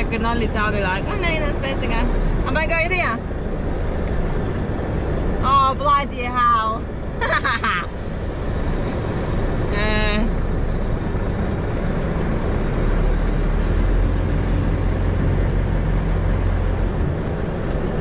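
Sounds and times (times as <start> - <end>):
truck diesel engine drone: 0.0 - 18.0.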